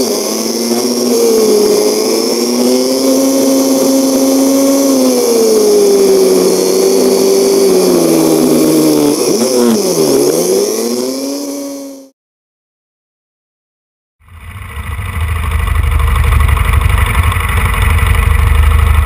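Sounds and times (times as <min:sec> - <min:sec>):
motorcycle engine running: 0:00.0 - 0:12.1, 0:14.2 - 0:19.0.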